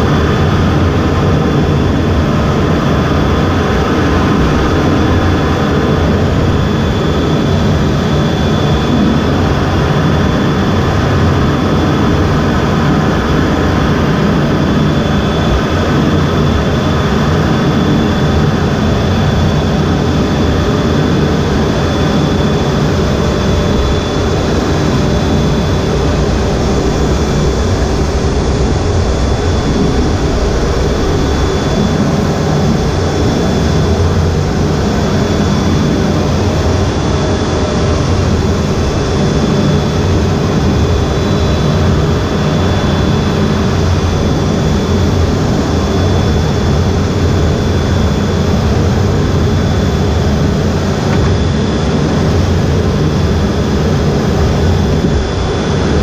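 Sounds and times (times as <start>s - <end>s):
faint high whine: 0.0s - 56.0s
jet engines low rumble: 0.0s - 56.0s.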